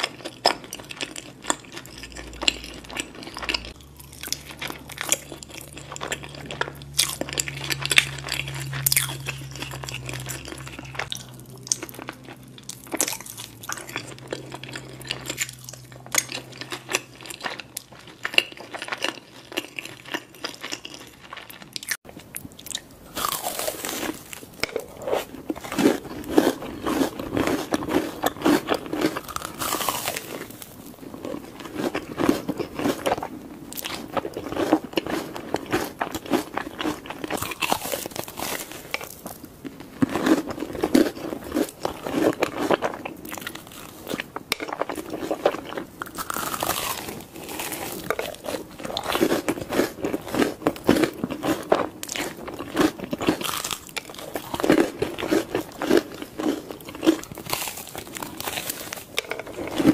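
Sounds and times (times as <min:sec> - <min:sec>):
crunchy bites and chewing: 0:00.0 - 0:59.9.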